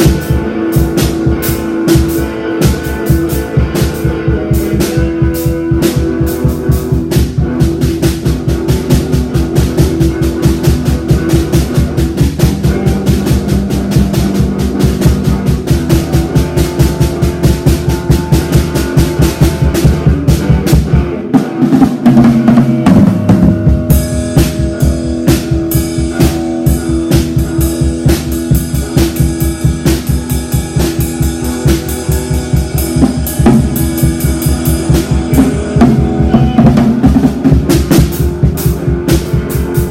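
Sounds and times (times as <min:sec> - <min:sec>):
bass and guitar notes: 0:00.0 - 0:39.9
cymbals: 0:00.0 - 0:39.9
drum kit beat: 0:00.0 - 0:39.9.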